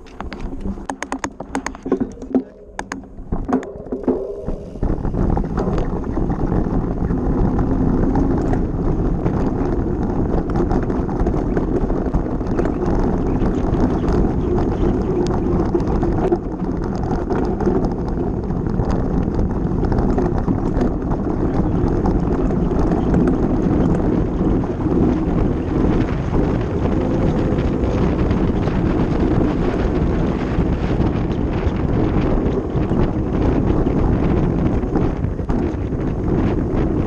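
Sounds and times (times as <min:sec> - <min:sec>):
bike rattling and clicking: 0:00.0 - 0:37.0
bike tyres rumbling over gravel: 0:00.0 - 0:37.0
wind buffeting microphone: 0:00.0 - 0:37.0.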